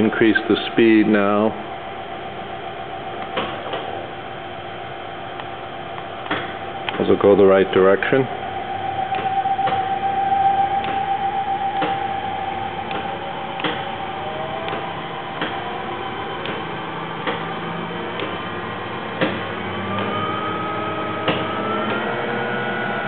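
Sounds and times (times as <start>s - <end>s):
lathe spindle running: 0.0s - 23.0s.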